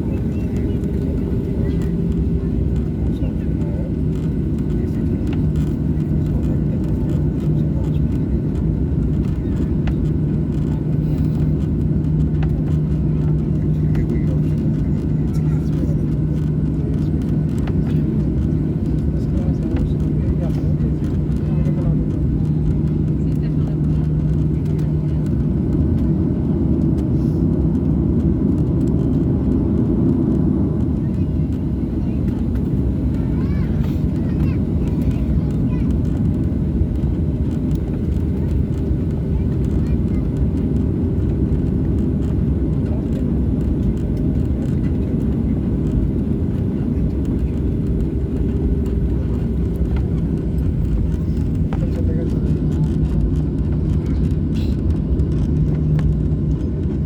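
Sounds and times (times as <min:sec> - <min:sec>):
jet engines rumbling in cabin: 0:00.0 - 0:57.0
faint clicks and rattles: 0:08.6 - 0:56.9.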